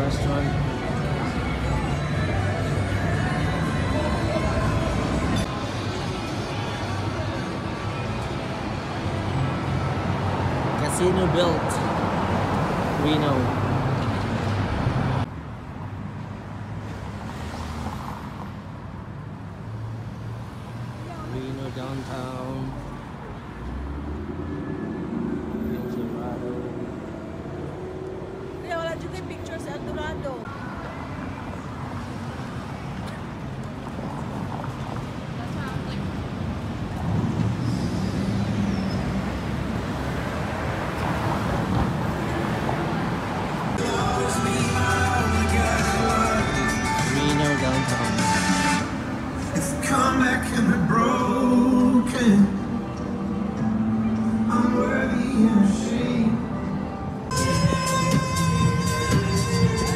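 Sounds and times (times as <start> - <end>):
city traffic engine hum: 0.0 - 59.9.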